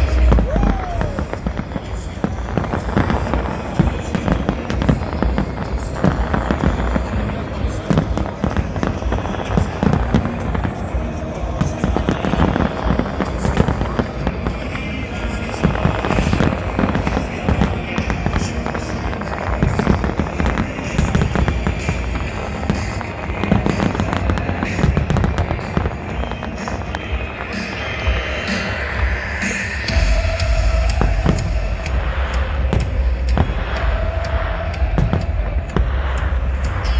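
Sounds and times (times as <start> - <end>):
firework bangs and crackles: 0.0 - 36.9
music playing: 0.0 - 36.9.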